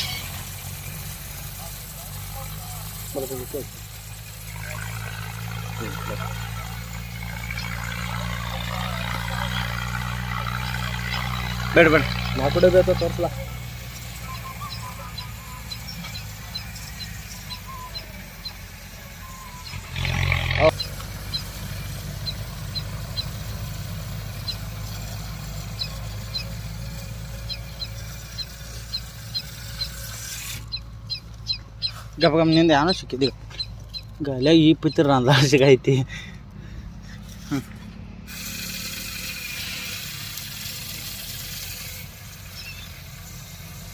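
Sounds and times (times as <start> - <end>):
tractor engine idling: 0.0 - 43.9.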